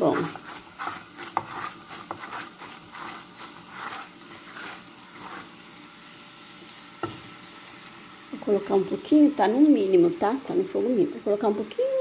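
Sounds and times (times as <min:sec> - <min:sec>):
stirring strokes in a pan: 0:00.0 - 0:12.0
syrup bubbling and sizzling: 0:00.0 - 0:12.0.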